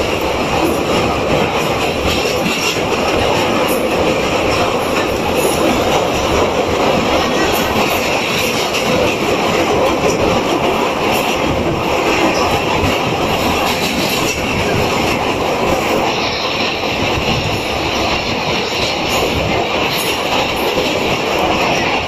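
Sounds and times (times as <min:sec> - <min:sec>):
train wheels rumbling on bridge: 0:00.0 - 0:22.0.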